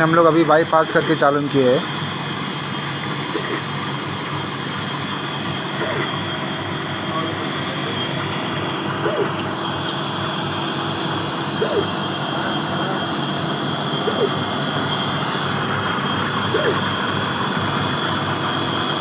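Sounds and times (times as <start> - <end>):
ice maker humming: 0.0 - 19.0.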